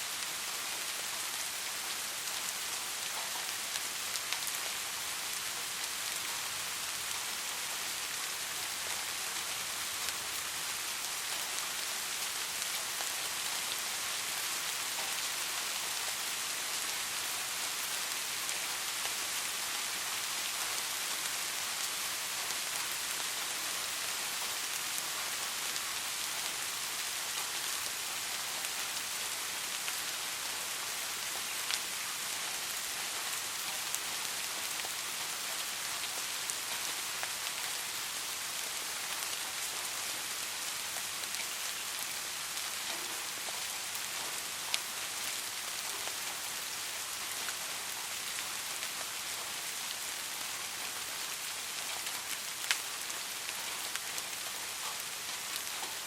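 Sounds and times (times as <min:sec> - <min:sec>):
rain hissing on a surface: 0:00.0 - 0:56.0.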